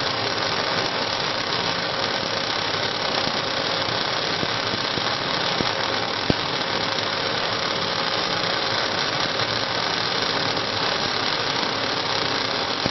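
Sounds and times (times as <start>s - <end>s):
welding arc hissing: 0.0s - 12.9s
welding arc pops: 0.0s - 12.9s.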